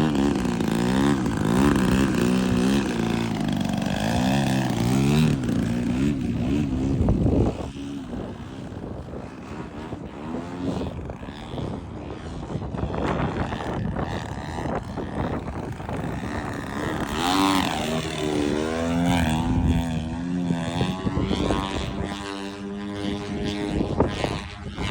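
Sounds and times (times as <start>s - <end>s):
model airplane motor: 0.0s - 24.9s
wind buffeting microphone: 0.0s - 24.9s.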